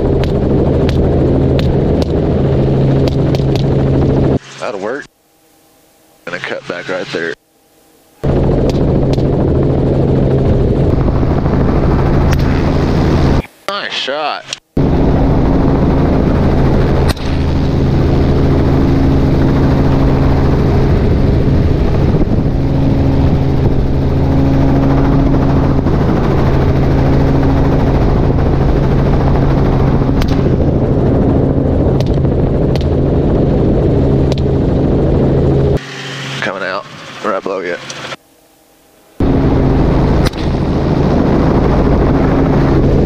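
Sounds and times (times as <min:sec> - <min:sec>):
helicopter engine and rotor: 0:00.0 - 0:43.0.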